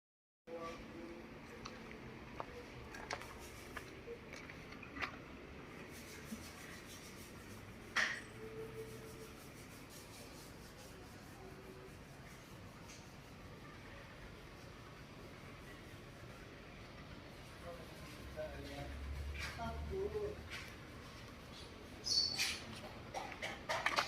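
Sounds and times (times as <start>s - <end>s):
low background noise: 0.5s - 24.0s.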